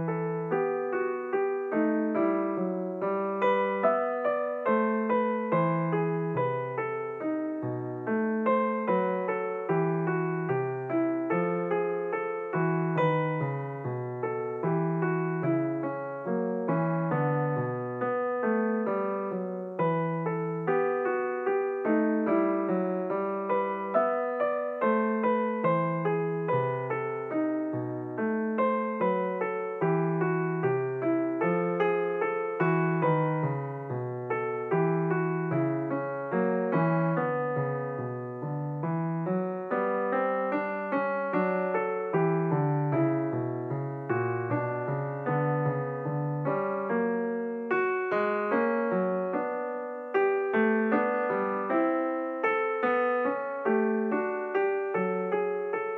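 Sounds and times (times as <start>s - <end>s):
piano music: 0.0s - 55.9s.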